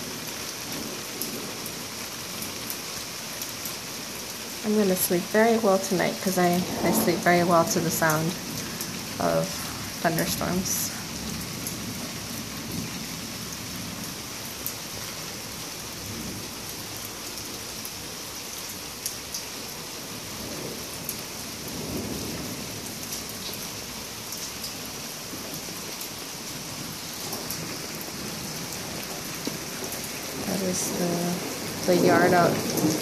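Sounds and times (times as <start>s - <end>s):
low rumble of thunder: 0.0s - 2.8s, 3.7s - 18.2s, 19.9s - 33.0s
heavy rain falling: 0.0s - 33.0s
sharp ticks of raindrops: 0.0s - 33.0s.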